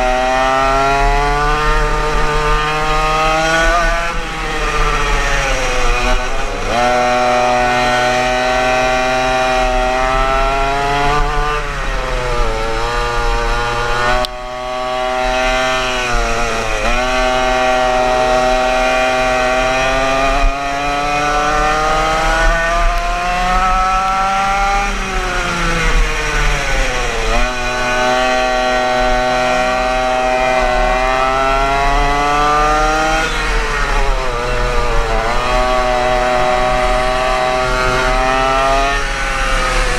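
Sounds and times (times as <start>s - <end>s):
two-stroke kart engine: 0.0s - 39.9s.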